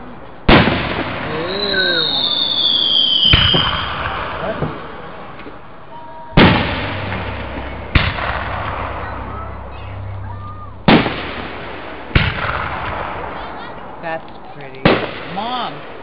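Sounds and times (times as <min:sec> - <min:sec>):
fireworks bursting with echoing rumble: 0:00.4 - 0:05.8, 0:06.4 - 0:16.0.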